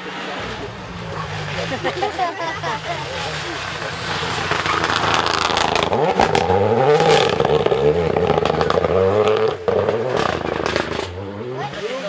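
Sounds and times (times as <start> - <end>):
rally car engine revving: 0.0 - 12.0
exhaust pops and crackles: 0.4 - 11.9.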